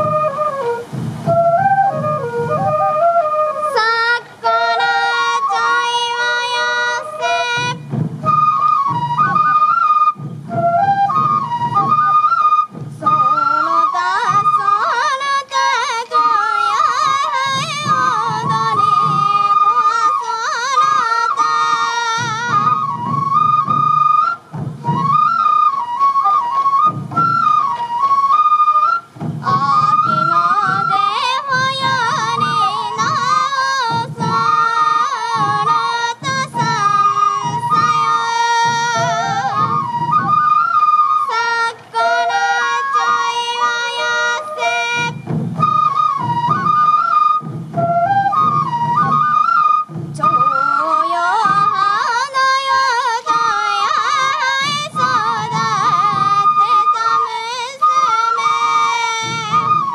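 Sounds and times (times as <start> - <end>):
taiko drums beating: 0.0 - 3.8, 4.4 - 59.9
bamboo flute melody: 0.0 - 59.9.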